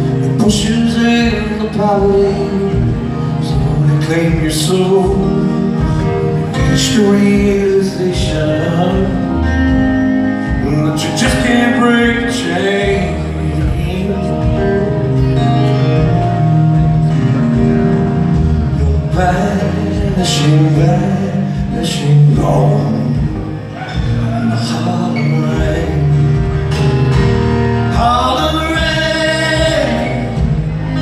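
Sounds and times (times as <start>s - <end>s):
live rock band: 0.0s - 31.0s.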